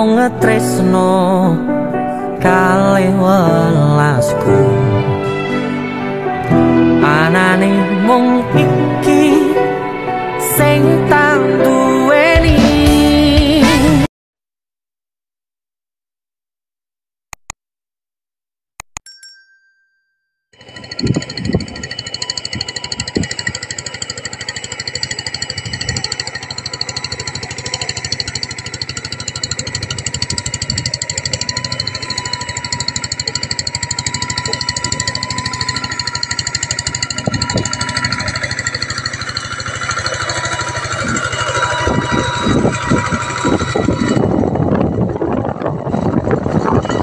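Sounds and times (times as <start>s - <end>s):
diesel engine chugging: 0.0s - 14.1s, 20.6s - 47.0s.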